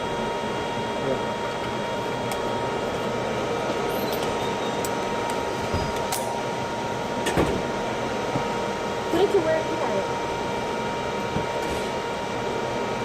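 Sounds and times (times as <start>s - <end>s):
ventilation hum and whoosh: 0.0s - 13.0s.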